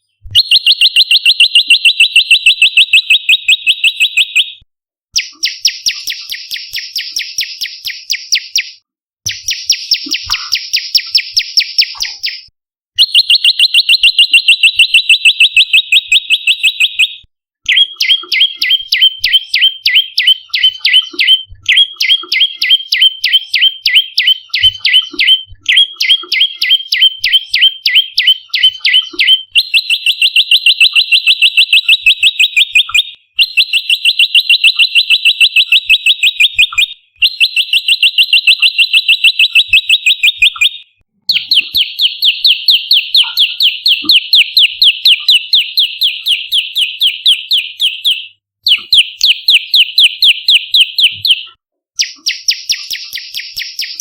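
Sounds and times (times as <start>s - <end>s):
bird chirping trills: 0.0s - 4.6s, 5.2s - 12.5s, 13.1s - 54.0s.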